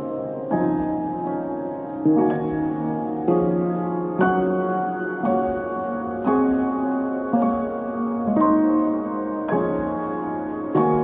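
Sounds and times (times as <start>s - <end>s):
slow music of held chords: 0.0s - 11.0s.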